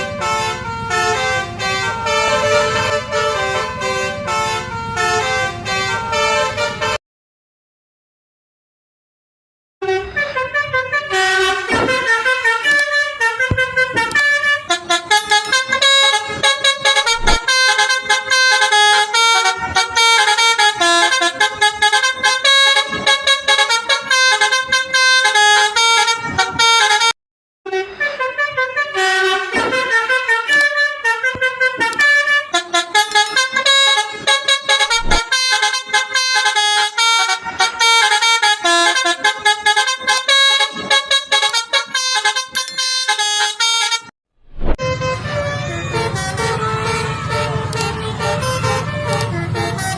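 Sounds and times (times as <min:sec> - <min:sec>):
multi-tone bus horn melody: 0:00.0 - 0:07.0, 0:09.8 - 0:44.1, 0:44.8 - 0:49.9.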